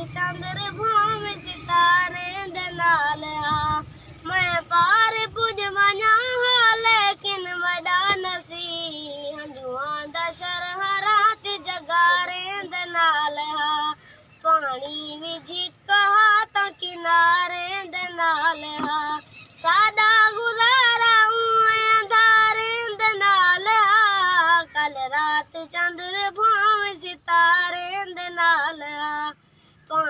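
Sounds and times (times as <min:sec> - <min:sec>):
boy singing lament: 0:00.0 - 0:30.0.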